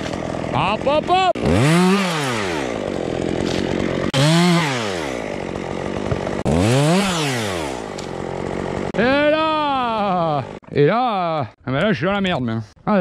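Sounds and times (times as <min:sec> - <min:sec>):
chainsaw cutting wood: 0:00.0 - 0:10.8.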